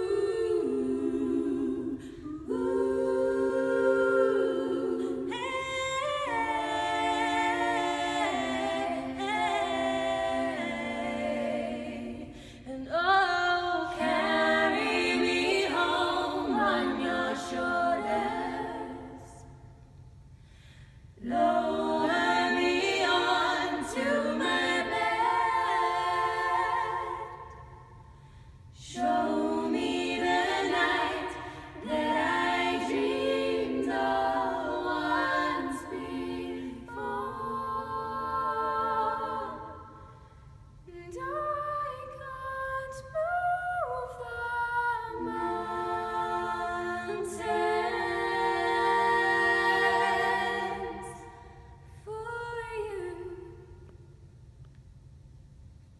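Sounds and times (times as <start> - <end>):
women singing in harmony: 0.0 - 19.7, 21.2 - 28.1, 28.7 - 54.1.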